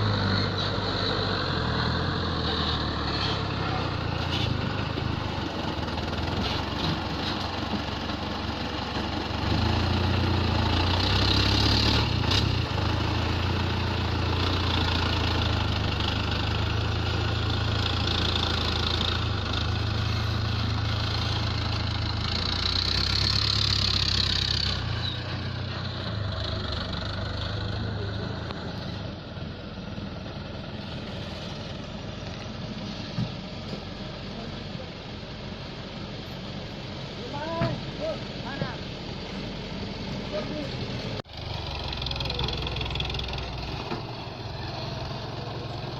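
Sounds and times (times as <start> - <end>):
truck diesel engine running: 0.0 - 45.9.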